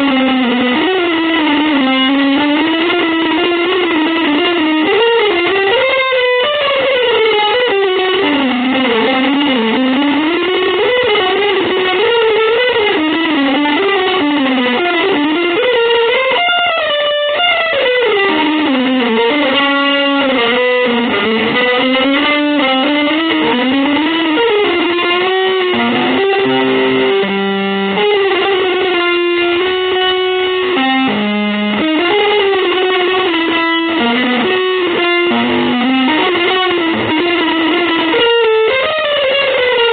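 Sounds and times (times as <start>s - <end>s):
electric guitar melody: 0.0s - 39.9s.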